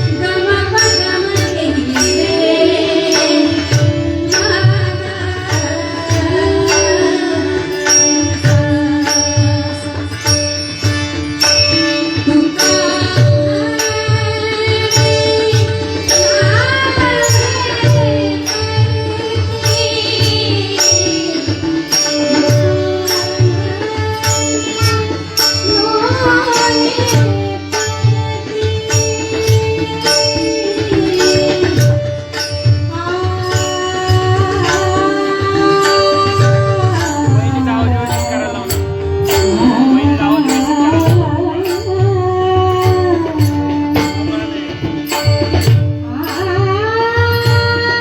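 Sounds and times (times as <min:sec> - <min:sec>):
sharp high percussion stroke: 0:00.0 - 0:48.0
devotional melody tones: 0:01.0 - 0:48.0.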